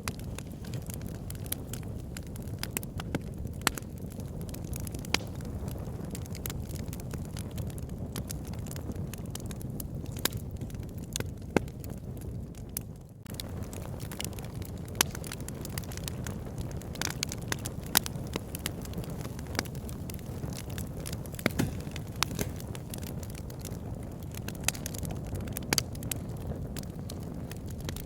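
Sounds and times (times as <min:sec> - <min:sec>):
fire rumbling: 0:00.0 - 0:28.0
logs crackling and popping: 0:00.0 - 0:28.0.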